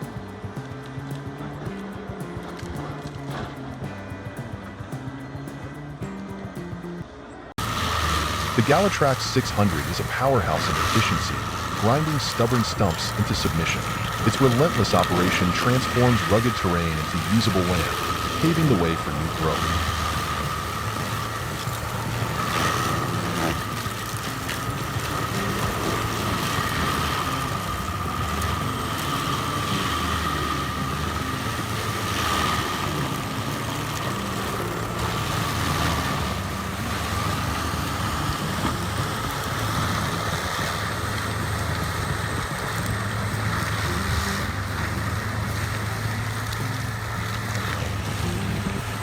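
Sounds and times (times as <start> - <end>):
heavy machine engine running: 0.0 - 49.0.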